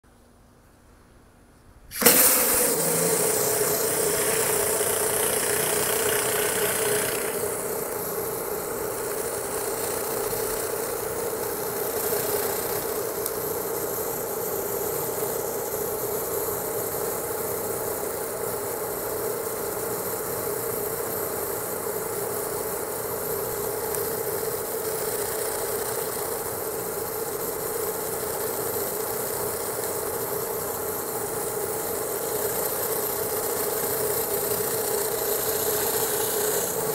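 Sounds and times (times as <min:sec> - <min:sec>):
hissing water spray: 0:01.9 - 0:36.9
pressure washer drone: 0:01.9 - 0:36.9.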